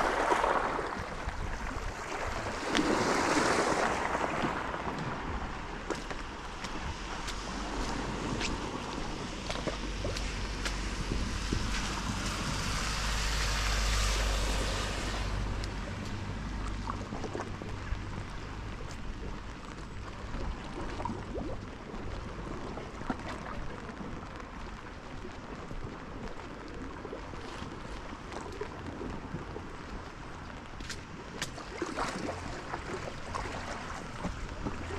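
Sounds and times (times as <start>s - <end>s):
wind buffeting microphone: 0.0s - 34.9s
steady rain: 2.6s - 31.6s.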